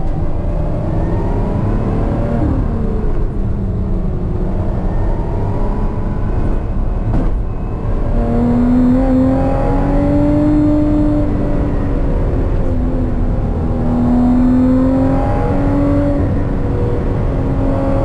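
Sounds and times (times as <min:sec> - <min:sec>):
car engine revving: 0:00.0 - 0:18.0
road and tyre rumble: 0:00.0 - 0:18.0.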